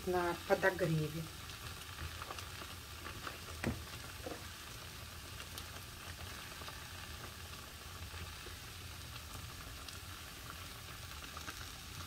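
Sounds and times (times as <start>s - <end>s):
food gently sizzling in a pan: 0.0s - 12.0s.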